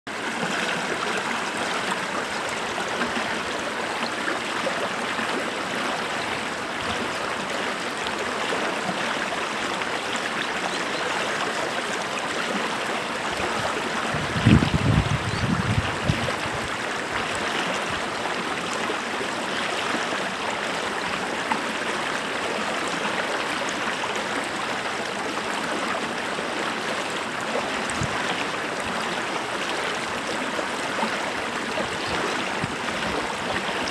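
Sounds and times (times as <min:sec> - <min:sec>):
creek running over rocks: 0:00.1 - 0:33.9.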